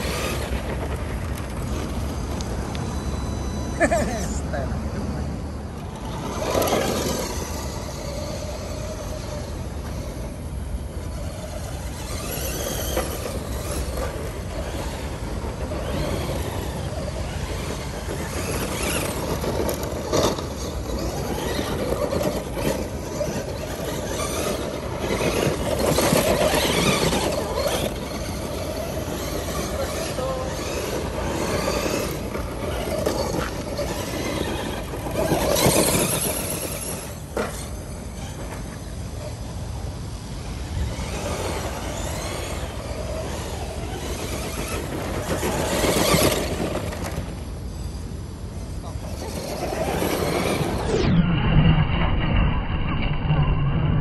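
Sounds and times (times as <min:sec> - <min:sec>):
tyres scrabbling on dirt: 0:00.0 - 0:04.0, 0:05.4 - 0:48.0
toy truck motor whining: 0:00.0 - 0:51.2.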